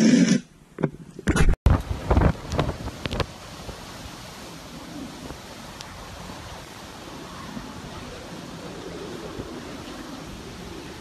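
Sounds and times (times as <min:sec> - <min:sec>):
driving rain: 0:01.7 - 0:11.0
strong wind: 0:01.7 - 0:11.0.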